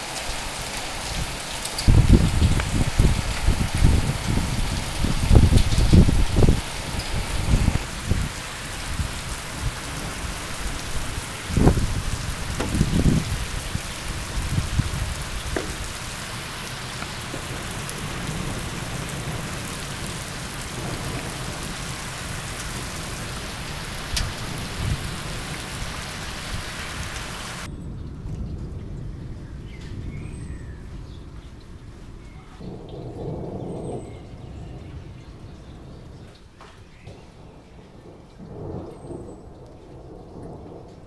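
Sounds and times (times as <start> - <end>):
heavy rain on road: 0.0 - 41.0
thunder rumbles: 0.0 - 41.0.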